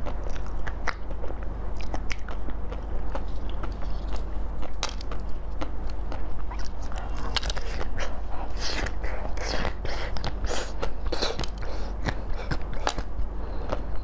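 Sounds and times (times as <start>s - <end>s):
chewing dessert: 0.0s - 14.0s.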